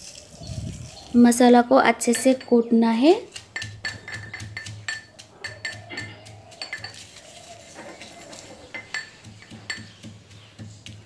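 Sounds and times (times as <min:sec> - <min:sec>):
metal pestle clinking in mortar: 0:02.1 - 0:11.0.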